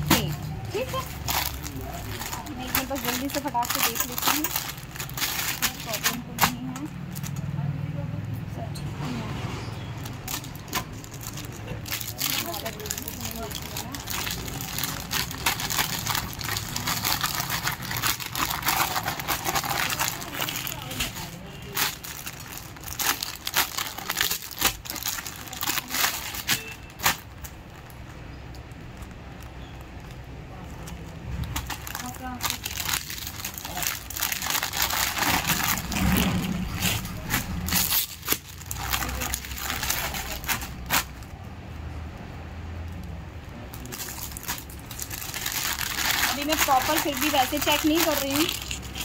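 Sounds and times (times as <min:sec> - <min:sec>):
plastic packaging crinkling: 0:00.0 - 0:07.4, 0:10.0 - 0:41.3, 0:43.7 - 0:49.0.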